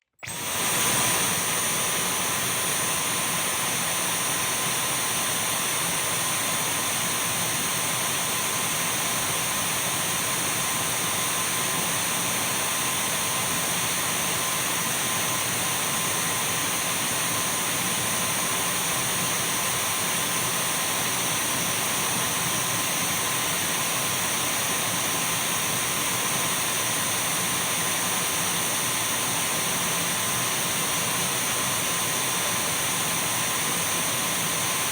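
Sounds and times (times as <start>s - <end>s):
cordless vacuum running: 0.0s - 34.9s.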